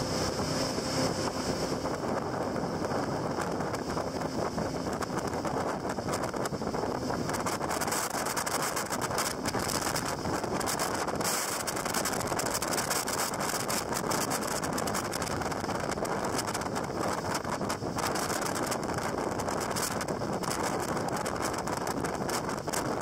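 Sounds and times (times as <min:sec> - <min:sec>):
jet boat engine and water rush: 0:00.0 - 0:23.0
wind buffeting microphone: 0:00.0 - 0:23.0.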